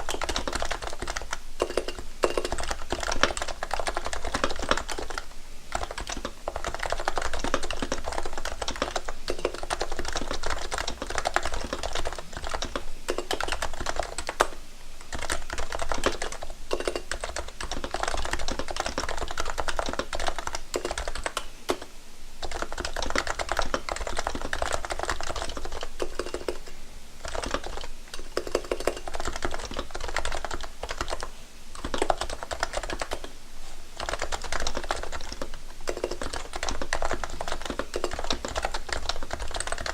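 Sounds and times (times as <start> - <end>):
keyboard typing: 0.0 - 33.3, 34.0 - 39.9.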